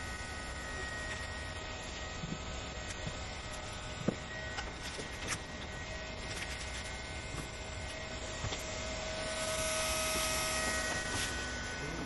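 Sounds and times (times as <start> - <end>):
heat gun running: 0.0 - 12.0.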